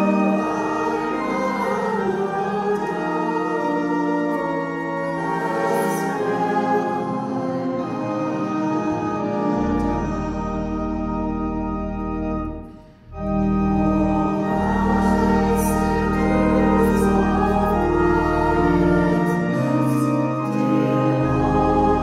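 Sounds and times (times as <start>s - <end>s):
congregation singing: 0.0s - 11.8s, 12.5s - 22.0s
church organ playing a hymn: 0.0s - 22.0s.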